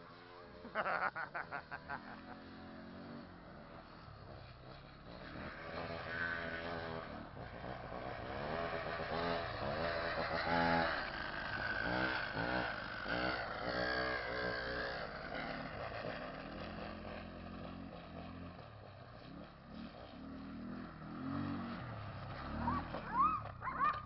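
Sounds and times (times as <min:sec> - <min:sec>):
chainsaw engine revving: 0:00.1 - 0:18.5, 0:19.2 - 0:24.0.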